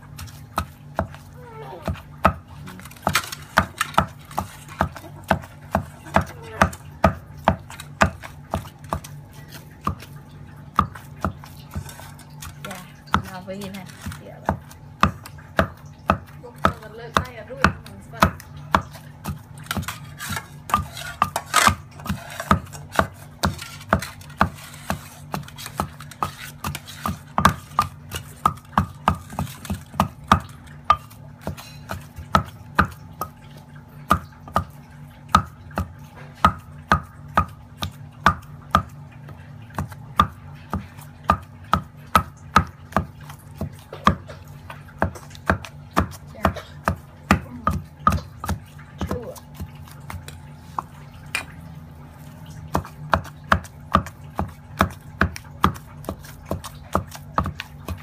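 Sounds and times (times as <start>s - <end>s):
pestle pounding in stone mortar: 0.0s - 51.6s, 52.2s - 58.0s.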